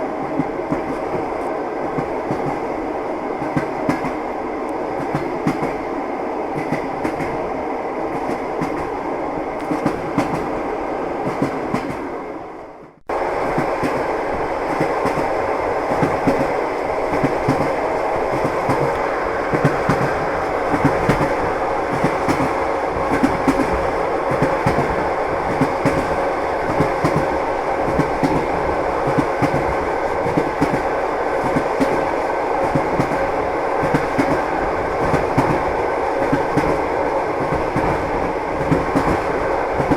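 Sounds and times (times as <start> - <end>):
train wheels clattering on rails: 0.2 - 2.8, 3.4 - 5.9, 6.5 - 7.5, 8.1 - 10.6, 11.2 - 12.1, 13.4 - 39.9.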